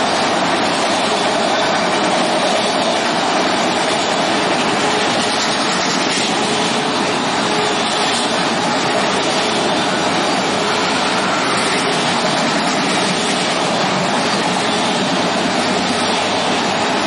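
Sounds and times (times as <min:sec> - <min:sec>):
freight train wheels on rail: 0:00.0 - 0:17.0.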